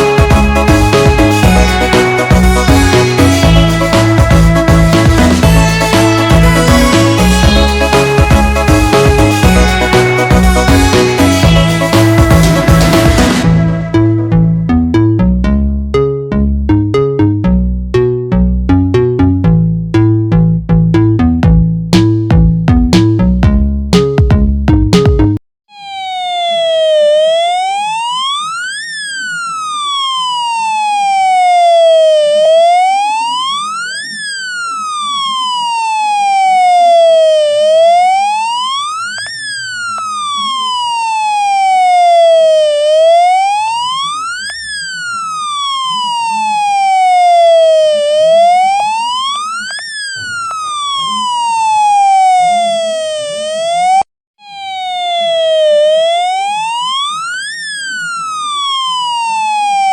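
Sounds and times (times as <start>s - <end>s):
buzzy electronic siren wail: 0.0s - 15.4s, 25.7s - 59.9s.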